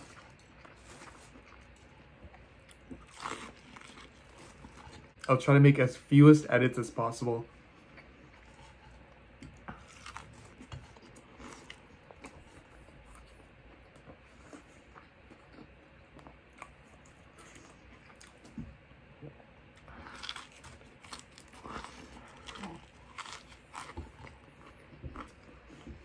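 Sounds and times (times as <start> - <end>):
person chewing crunchy food: 0.0 - 5.3, 7.6 - 26.0.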